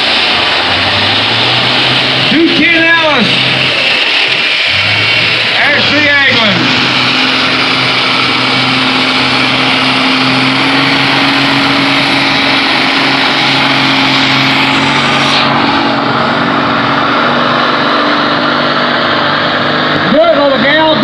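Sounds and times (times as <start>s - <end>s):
engine running hard under load: 0.0s - 21.0s.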